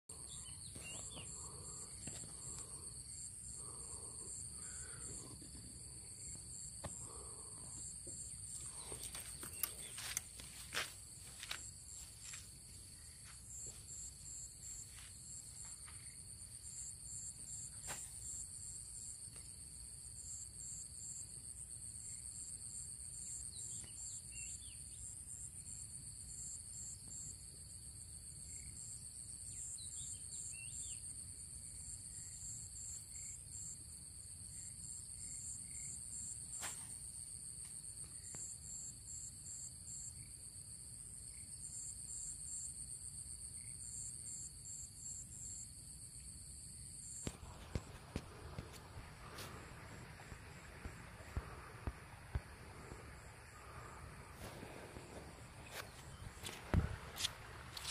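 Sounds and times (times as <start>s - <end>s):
insects buzzing: 0.1s - 57.9s.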